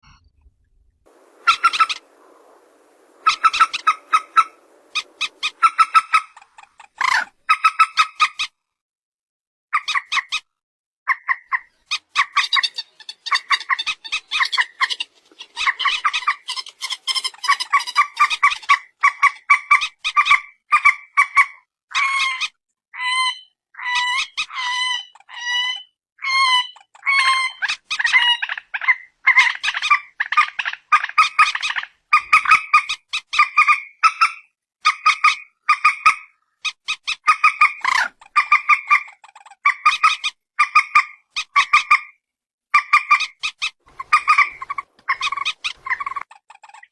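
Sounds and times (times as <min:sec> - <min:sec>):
waterbird rapid clucking calls: 0:01.1 - 0:08.5, 0:11.1 - 0:22.4, 0:26.3 - 0:42.2, 0:42.8 - 0:46.9.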